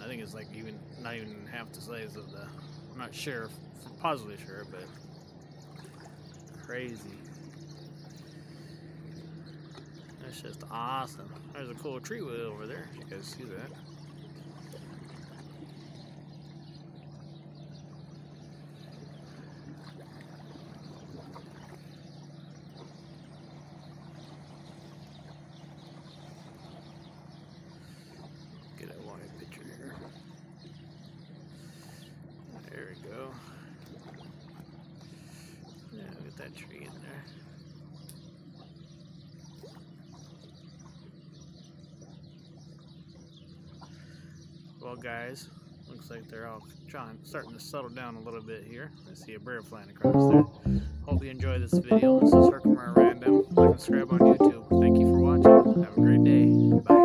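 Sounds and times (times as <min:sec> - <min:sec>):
motorboat engines droning: 0:00.0 - 0:57.0.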